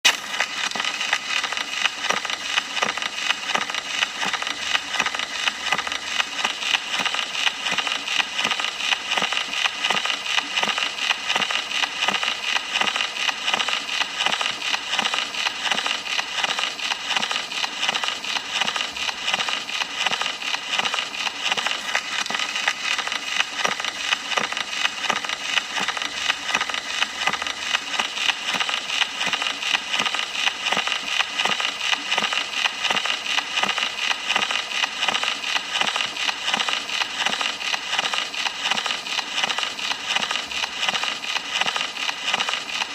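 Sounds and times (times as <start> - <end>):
record hiss with crackles and pops: 0.1 - 42.9.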